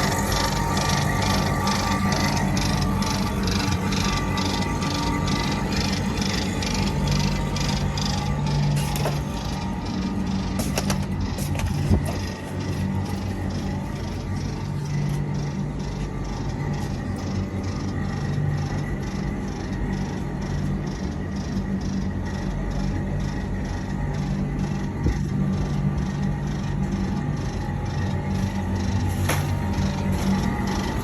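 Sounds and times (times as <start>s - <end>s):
air conditioner humming: 0.0s - 31.0s.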